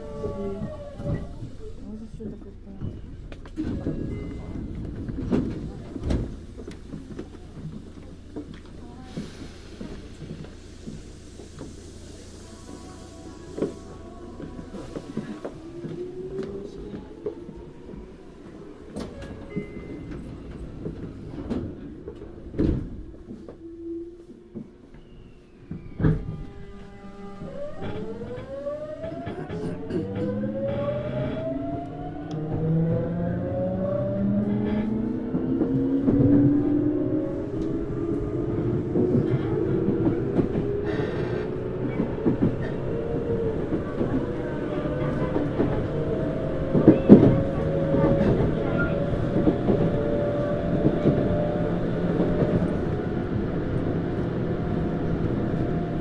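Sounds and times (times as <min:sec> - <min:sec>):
train rumble and motor tone: 0:00.0 - 0:56.0.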